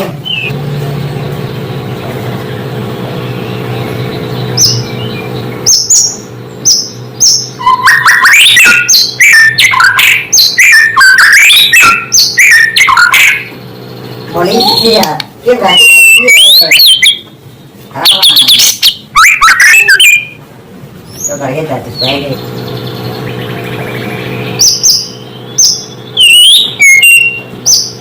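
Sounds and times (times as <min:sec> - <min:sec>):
steady low hum: 0:00.0 - 0:28.0
bird whistling song: 0:00.2 - 0:00.6, 0:01.3 - 0:15.1, 0:15.7 - 0:20.4, 0:22.0 - 0:28.0.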